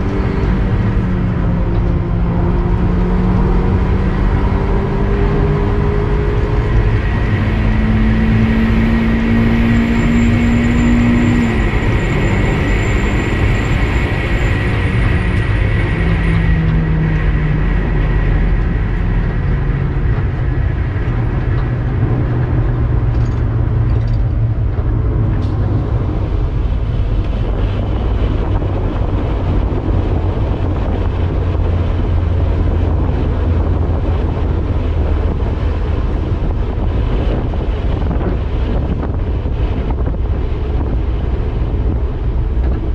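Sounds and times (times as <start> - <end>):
car engine running: 0.0 - 42.9
road rumble: 0.0 - 42.9.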